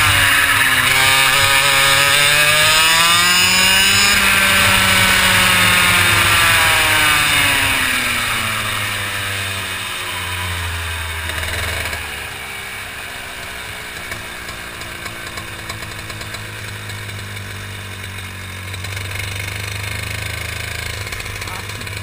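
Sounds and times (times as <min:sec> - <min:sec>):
kart engine: 0:00.0 - 0:22.0.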